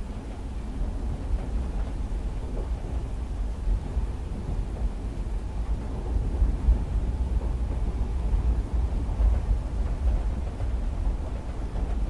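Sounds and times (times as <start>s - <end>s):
rain on a window: 0.0s - 12.0s
train carriage rumble: 0.0s - 12.0s.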